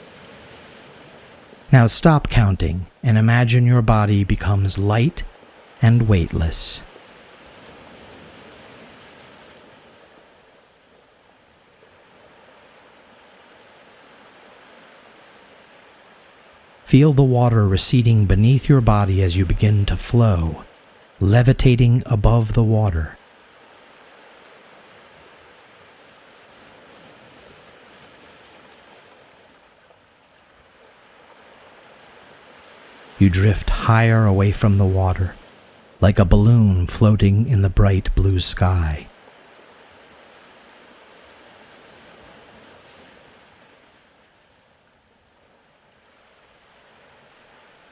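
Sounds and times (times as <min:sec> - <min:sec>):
faint ocean surf: 0:00.0 - 0:47.9.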